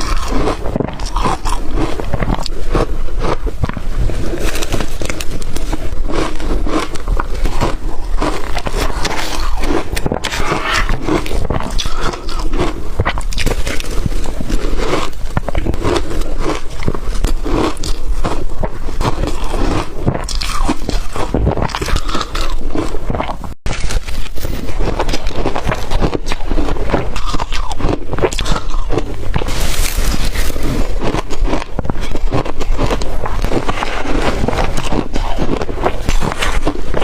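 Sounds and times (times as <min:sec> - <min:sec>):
crunching ice between teeth: 0:00.0 - 0:37.0.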